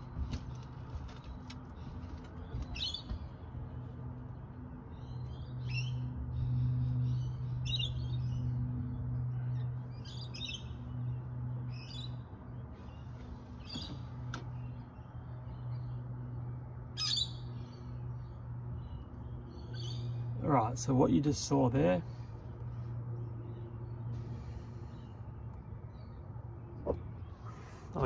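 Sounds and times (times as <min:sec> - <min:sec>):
steady low hum: 0:00.0 - 0:28.0
small birds twittering: 0:01.1 - 0:28.0.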